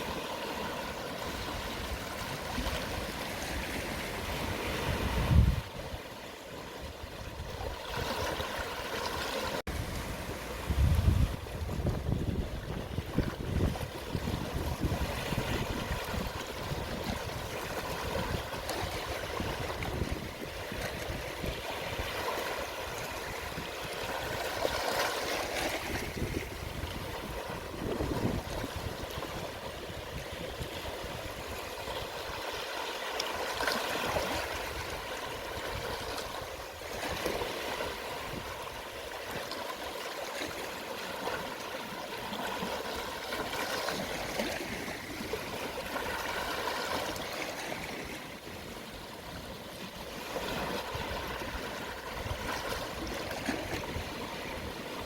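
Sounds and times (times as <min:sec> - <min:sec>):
gentle sea waves on shore: 0:00.0 - 0:55.0.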